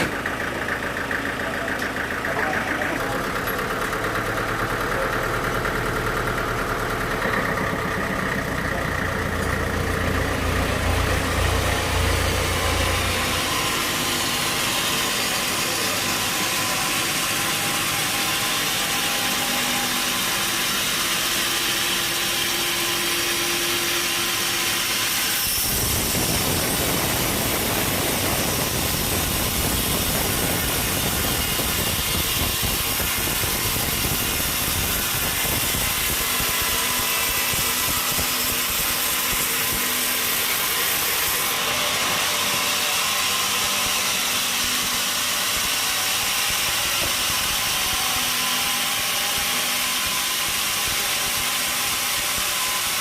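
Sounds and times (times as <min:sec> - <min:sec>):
sawmill machinery engine drone: 0:00.0 - 0:53.0.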